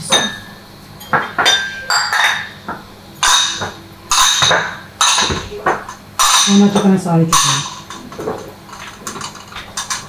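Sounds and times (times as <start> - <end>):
ceramic bowls clinking: 0.0 - 10.0.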